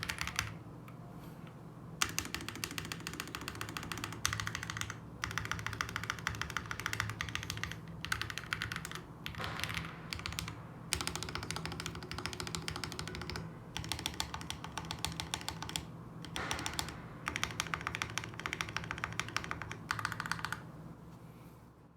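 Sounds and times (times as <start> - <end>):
fast typing on mechanical keyboard: 0.0 - 0.6, 2.0 - 20.6
faint low hum: 0.0 - 21.9.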